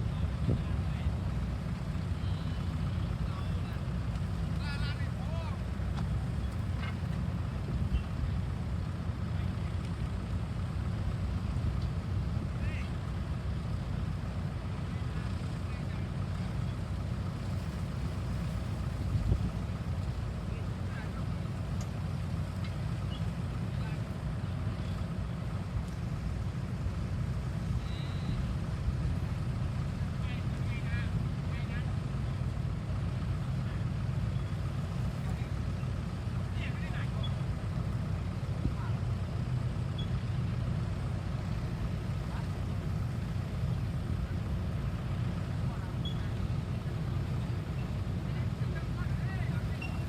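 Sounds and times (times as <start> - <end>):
excavator diesel engine rumbling: 0.0 - 50.0.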